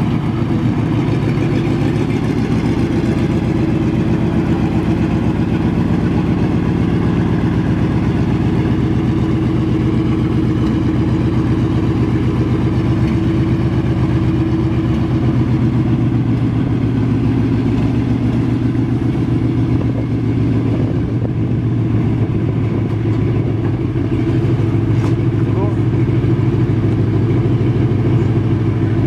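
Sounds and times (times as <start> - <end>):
tank engine running: 0.0 - 29.0.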